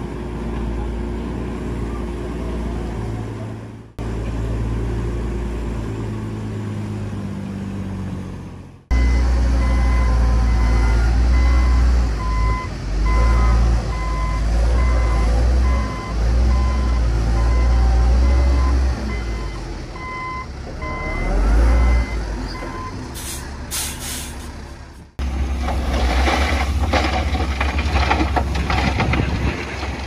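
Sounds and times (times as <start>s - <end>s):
diesel machinery engine running: 0.0s - 30.0s.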